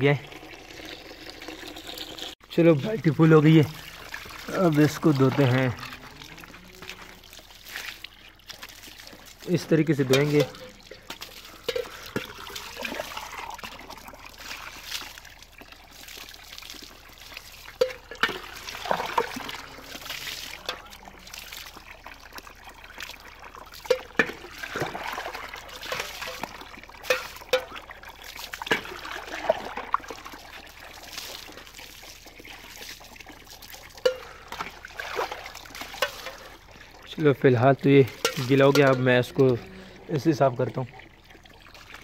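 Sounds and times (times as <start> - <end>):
mug scooping water from bucket: 0.0 - 42.0
water poured and splashing: 0.0 - 42.0.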